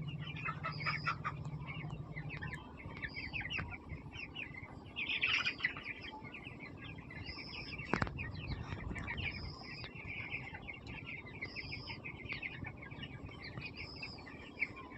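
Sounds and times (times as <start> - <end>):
chickens calling loudly: 0.0 - 14.9
chicks peeping: 0.0 - 14.9.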